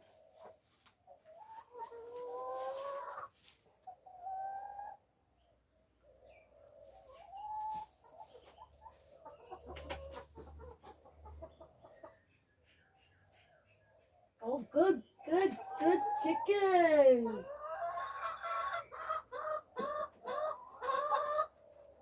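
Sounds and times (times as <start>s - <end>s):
hens clucking calls: 0.1s - 5.1s, 6.0s - 22.0s.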